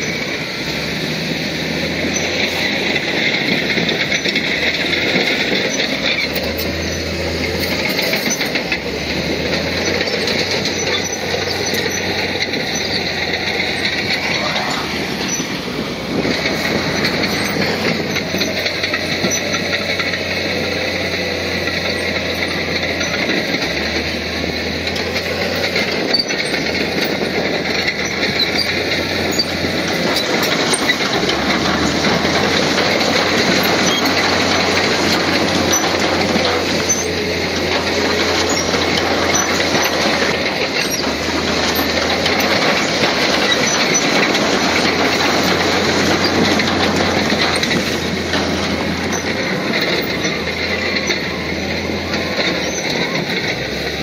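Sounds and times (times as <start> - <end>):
diesel engine under load: 0.0 - 54.0
metal tracks rattling: 0.0 - 54.0.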